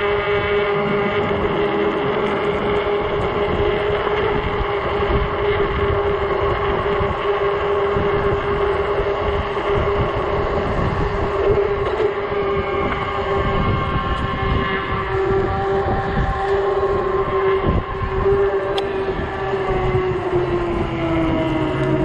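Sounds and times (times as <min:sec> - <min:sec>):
e-bike motor and tyres droning: 0:00.0 - 0:22.0
wind buffeting microphone: 0:00.0 - 0:22.0.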